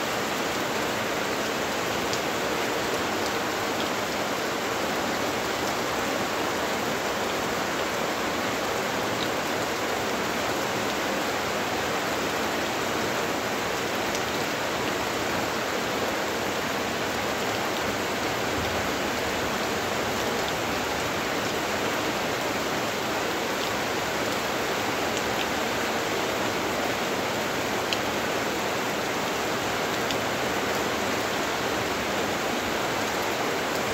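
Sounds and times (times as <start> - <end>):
rain falling on leaves: 0.0 - 33.9.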